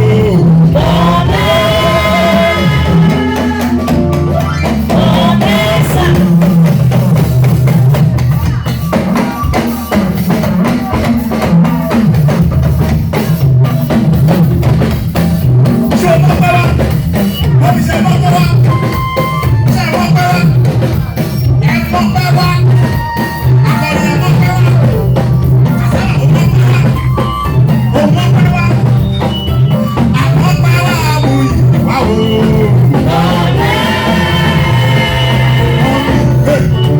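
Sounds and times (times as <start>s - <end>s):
drum kit beat: 0.0s - 36.9s
heavy bass line: 0.0s - 36.9s
live praise band music: 0.0s - 36.9s.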